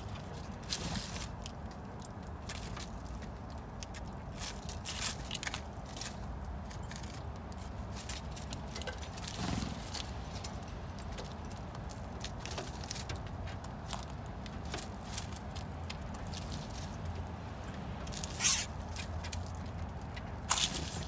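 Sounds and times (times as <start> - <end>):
animals cracking seeds: 0.0 - 21.0.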